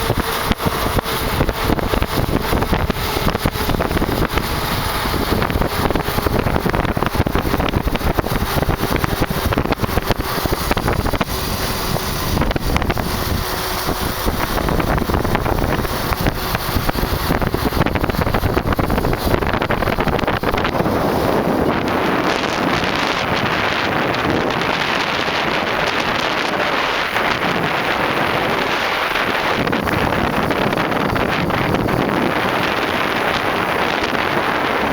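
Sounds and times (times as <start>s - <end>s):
tyre and road noise: 0.0s - 34.9s
wind rushing over microphone: 0.0s - 34.9s.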